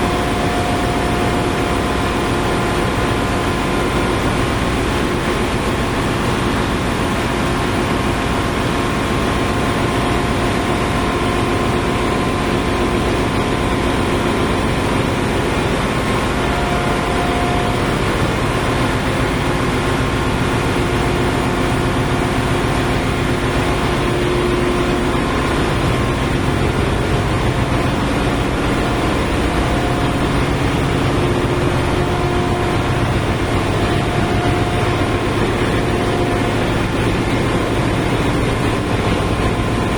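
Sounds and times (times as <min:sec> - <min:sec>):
engine room machinery drone: 0:00.0 - 0:39.9
machinery humming: 0:00.0 - 0:39.9.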